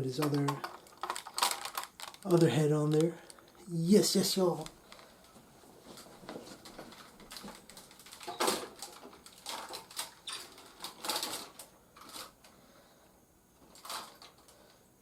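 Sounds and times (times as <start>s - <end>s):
plastic toys being handled: 0.0s - 12.4s, 13.6s - 14.6s.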